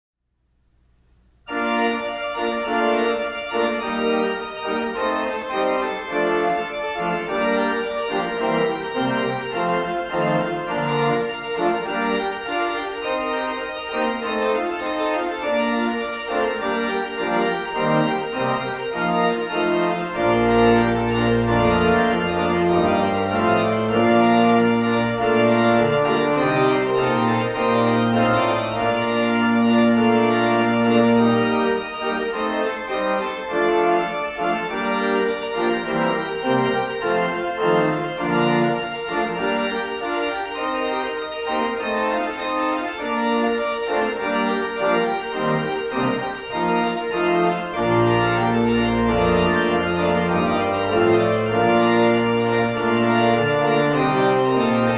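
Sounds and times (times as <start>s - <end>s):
pipe organ toccata: 0.7s - 54.9s
low organ pedal line: 0.9s - 54.9s.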